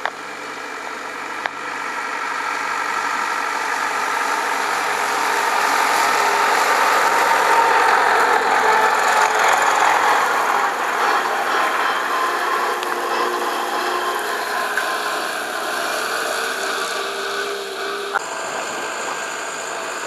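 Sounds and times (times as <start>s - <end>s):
tractor engine mowing grass: 0.0s - 20.0s.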